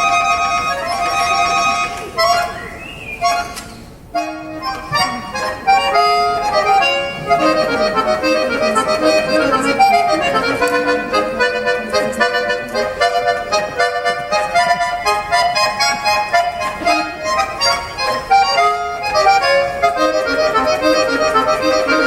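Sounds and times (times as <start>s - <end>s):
accordion melody: 0.0s - 22.0s.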